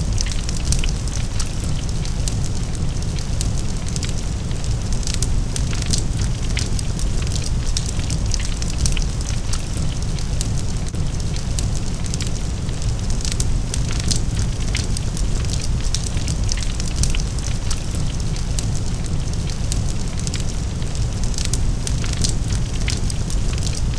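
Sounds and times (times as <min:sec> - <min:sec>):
burning wood crackling: 0:00.0 - 0:23.9
fire roaring: 0:00.0 - 0:23.9.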